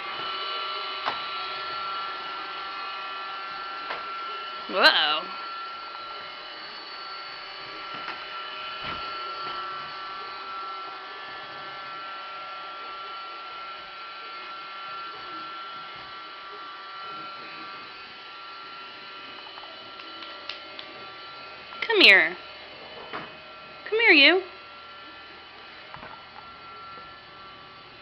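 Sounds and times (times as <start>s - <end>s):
robot vacuum motor whine: 0.0s - 28.0s.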